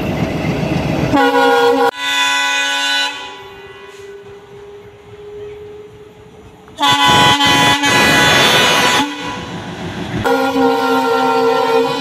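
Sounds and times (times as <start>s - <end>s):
locomotive air horn blasts: 1.1s - 9.6s, 10.2s - 12.0s.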